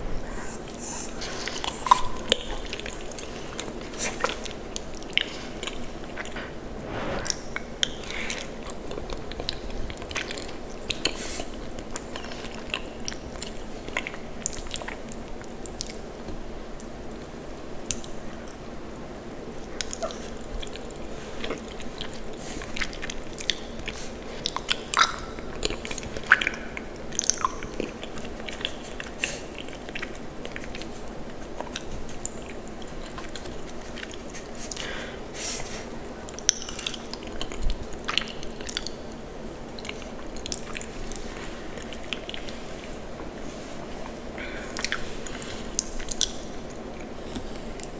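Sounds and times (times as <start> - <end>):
chewing with mouth smacks: 0.3 - 6.6, 7.3 - 18.7, 19.6 - 47.9.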